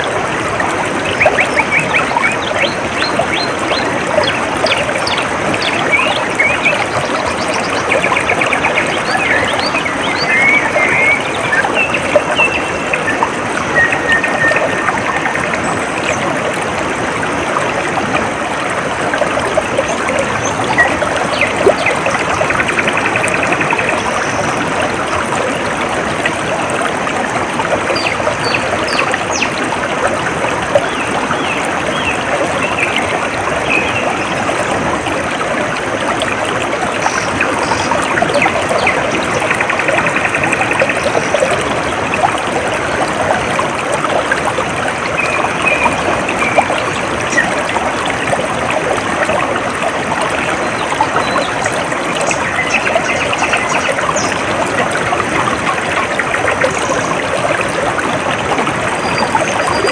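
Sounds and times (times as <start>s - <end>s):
stream trickling and babbling: 0.0s - 59.9s.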